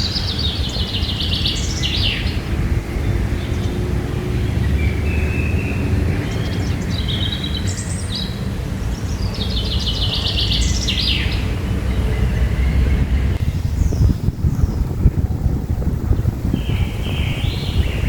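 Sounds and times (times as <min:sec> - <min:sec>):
loud steady low rumble: 0:00.0 - 0:18.0
wild birds calling: 0:00.0 - 0:18.0.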